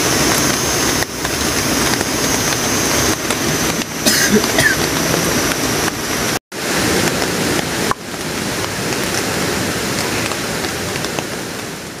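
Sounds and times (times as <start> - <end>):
rushing stream water: 0.0 - 12.0
steady rain: 0.0 - 12.0.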